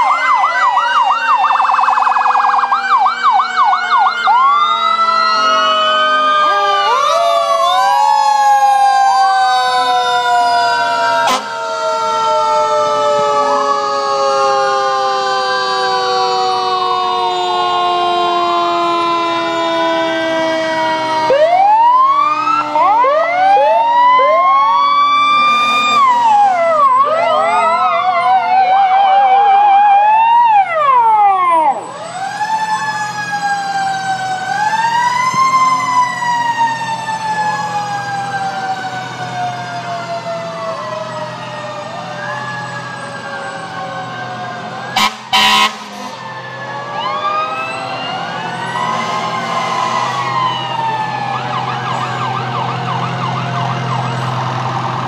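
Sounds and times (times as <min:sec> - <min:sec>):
fire truck sirens wailing: 0:00.0 - 0:55.0
siren yelp: 0:00.0 - 0:55.0.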